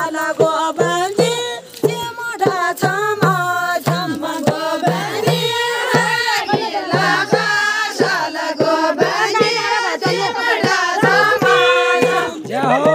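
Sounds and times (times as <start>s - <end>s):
quick drum beat: 0.0s - 12.9s
women singing in chorus: 0.0s - 12.9s.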